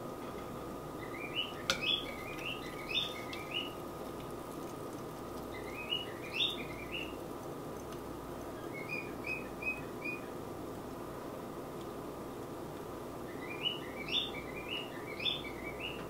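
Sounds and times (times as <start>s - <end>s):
microphone static hiss: 0.0s - 16.0s.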